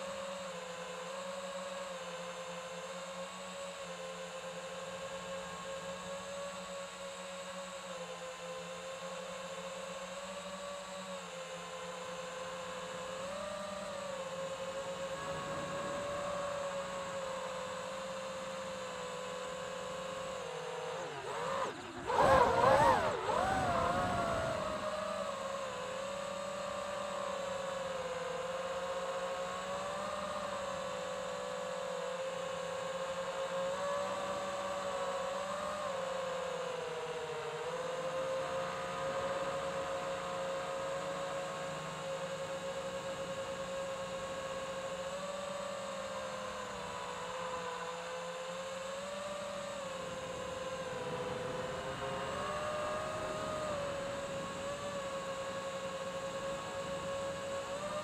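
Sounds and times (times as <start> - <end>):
drone motors whining: 4.3 - 58.0.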